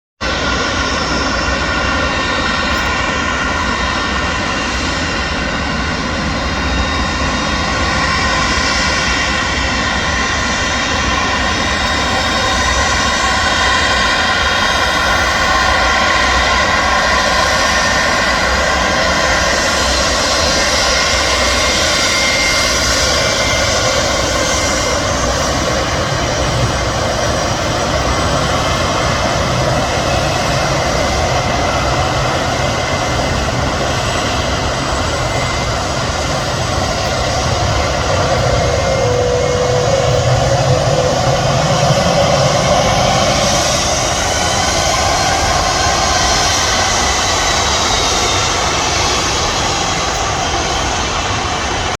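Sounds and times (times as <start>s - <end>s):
jet engines running: 0.2s - 52.0s.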